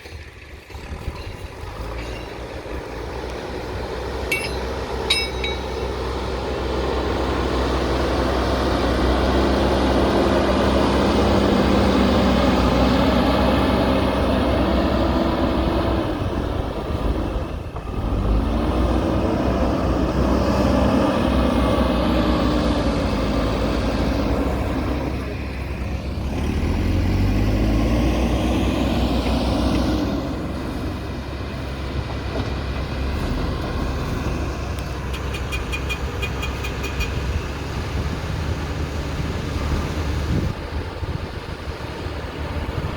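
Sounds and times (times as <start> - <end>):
diesel engine working under load: 0.0 - 42.9.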